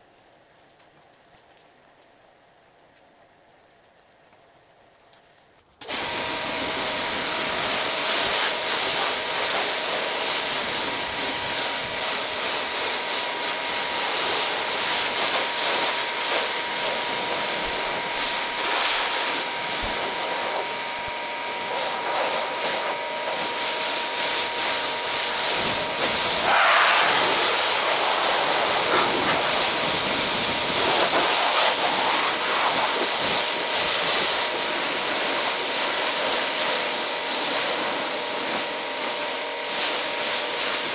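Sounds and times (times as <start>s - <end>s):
pressure washer jet spraying: 5.8s - 40.9s.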